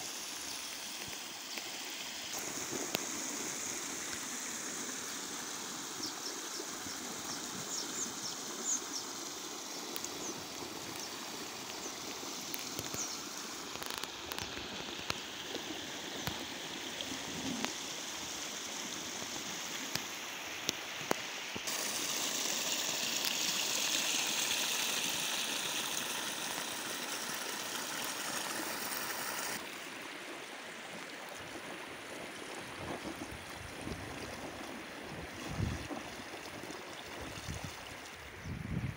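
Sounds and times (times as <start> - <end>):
water rushing and gurgling: 0.0 - 38.5.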